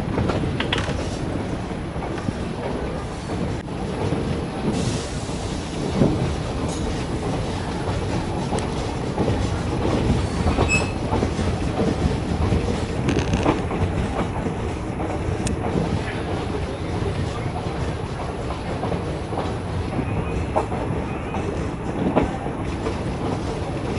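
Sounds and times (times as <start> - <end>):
train rumble: 0.0 - 23.9
train wheels clattering: 0.0 - 23.9.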